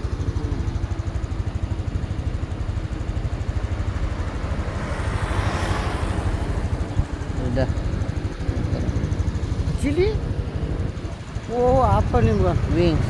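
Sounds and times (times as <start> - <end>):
throbbing low rumble: 0.0 - 13.0.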